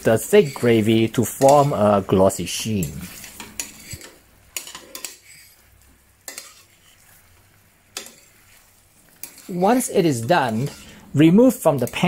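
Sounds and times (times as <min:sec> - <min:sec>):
faint sizzle of glaze: 0:00.0 - 0:12.0
metal spoon scraping a pan: 0:00.0 - 0:12.0.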